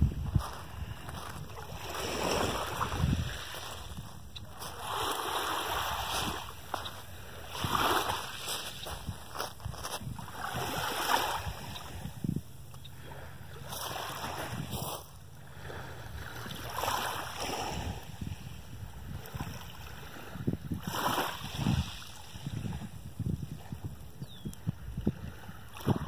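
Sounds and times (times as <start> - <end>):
small waves lapping: 0.0 - 26.0
wind buffeting microphone: 0.0 - 26.0.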